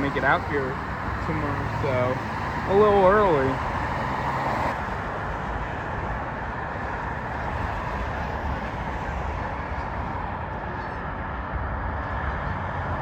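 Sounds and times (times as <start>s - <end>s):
traffic rumble and hiss: 0.0s - 13.0s.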